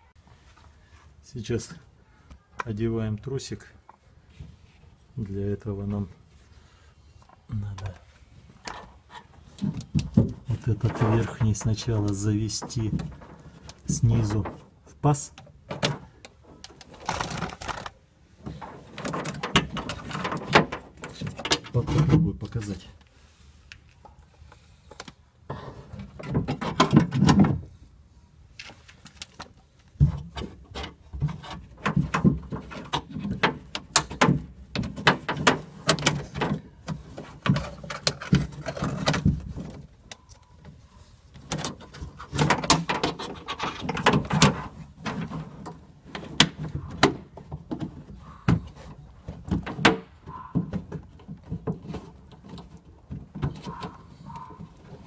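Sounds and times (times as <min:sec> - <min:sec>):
rustling: 0:03.5 - 0:55.0.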